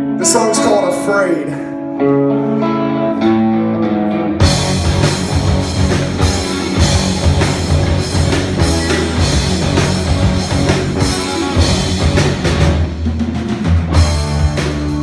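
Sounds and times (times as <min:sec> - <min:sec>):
guitar holding notes: 0:00.0 - 0:12.9
rock band playing: 0:00.0 - 0:15.0.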